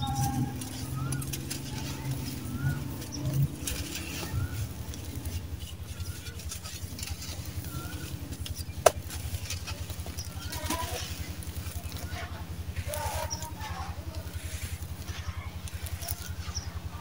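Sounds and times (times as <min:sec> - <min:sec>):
crumbling dry cement lumps: 0:00.0 - 0:17.0.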